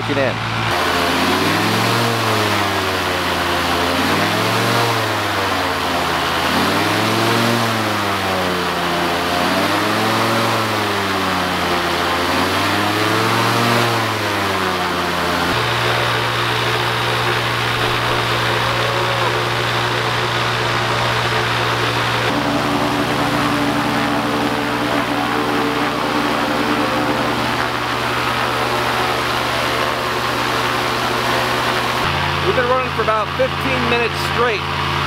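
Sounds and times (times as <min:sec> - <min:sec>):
aircraft engine revving: 0:00.0 - 0:35.0.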